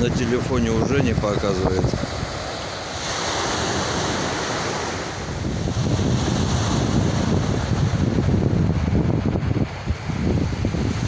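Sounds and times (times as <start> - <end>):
waves breaking on pebble beach: 0.0 - 11.0
wind buffeting microphone: 0.0 - 11.0.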